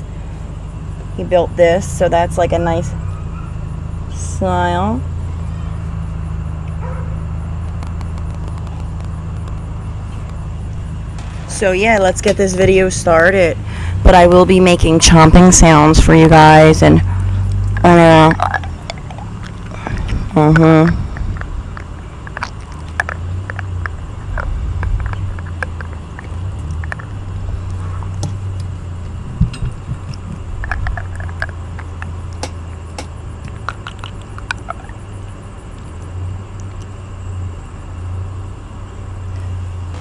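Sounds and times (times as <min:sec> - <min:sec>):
air conditioning unit humming: 0:00.0 - 0:40.0.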